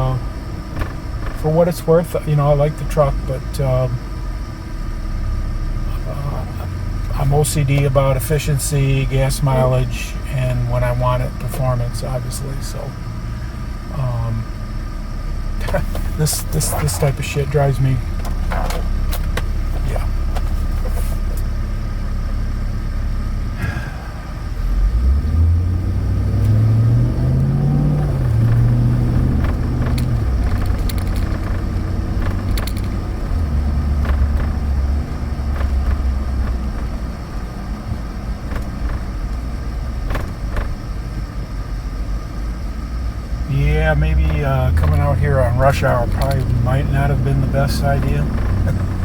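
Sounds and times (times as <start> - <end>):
road noise inside cab: 0.0 - 49.0
truck engine accelerating: 0.0 - 49.0.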